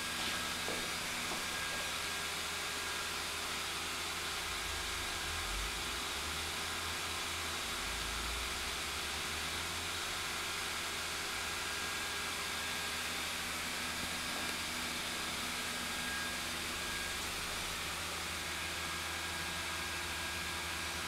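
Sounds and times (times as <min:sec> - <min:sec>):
blower fan hissing: 0:00.0 - 0:21.0.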